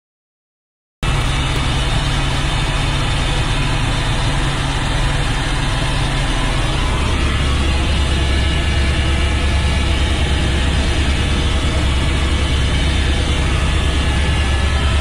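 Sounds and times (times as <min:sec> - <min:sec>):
helicopter engine and rotor noise: 0:01.0 - 0:15.0.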